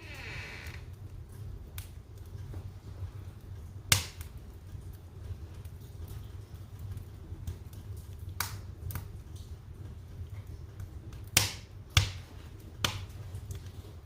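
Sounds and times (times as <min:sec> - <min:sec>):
fire crackles and pops: 0:00.0 - 0:14.0
wood fire rumbling: 0:00.0 - 0:14.0.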